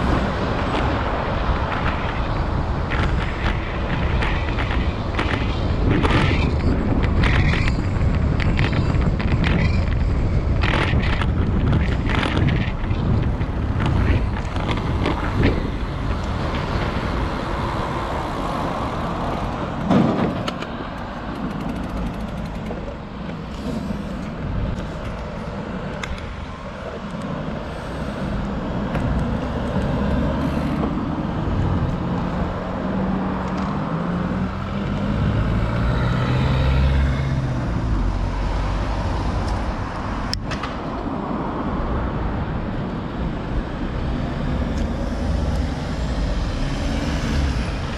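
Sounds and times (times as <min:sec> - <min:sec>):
heavy vehicle engine: 0:00.0 - 0:47.9
passing cars: 0:00.0 - 0:47.9.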